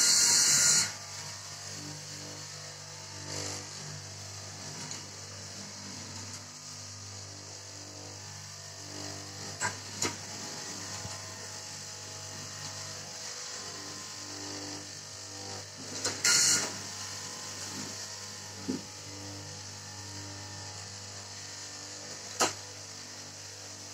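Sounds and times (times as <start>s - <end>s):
cloth cutting machine motor hum: 0.0s - 23.9s.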